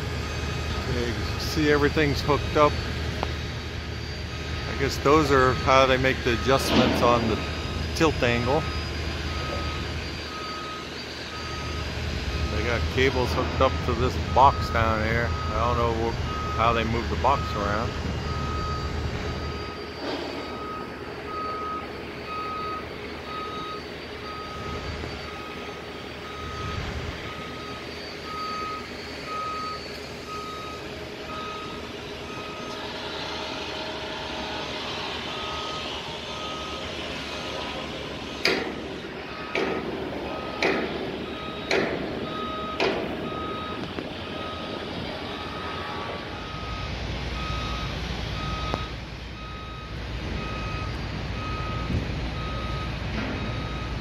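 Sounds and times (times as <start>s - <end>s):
backup alarm beeping: 0.0s - 54.0s
building site background noise: 0.0s - 54.0s.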